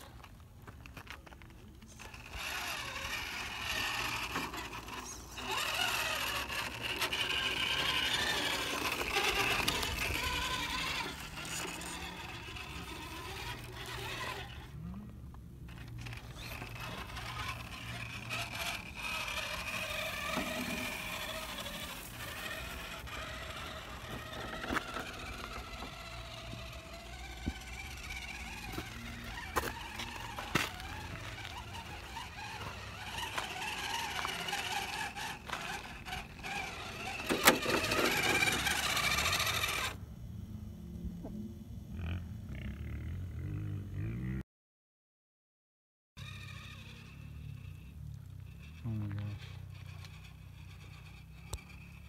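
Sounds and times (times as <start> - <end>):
small electric motor whining: 0.0 - 40.0, 46.2 - 52.0.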